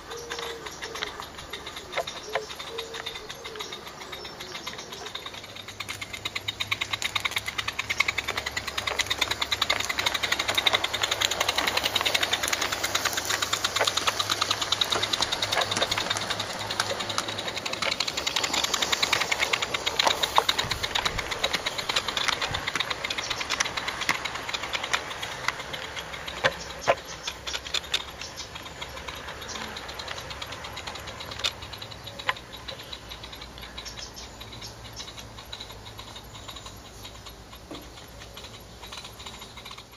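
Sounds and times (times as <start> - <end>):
sharp clicks: 0.0 - 39.9
steam locomotive chuffing: 0.0 - 39.9.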